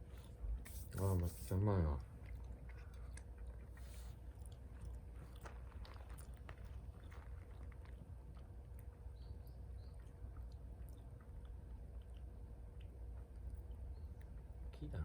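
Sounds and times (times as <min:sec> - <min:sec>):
person chewing food: 0:02.0 - 0:14.7.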